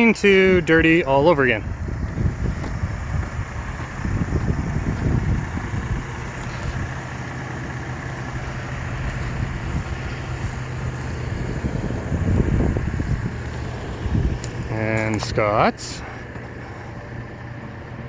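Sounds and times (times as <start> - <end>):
wind rumbling on microphone: 0.0 - 16.3
car engine idling: 0.0 - 18.0.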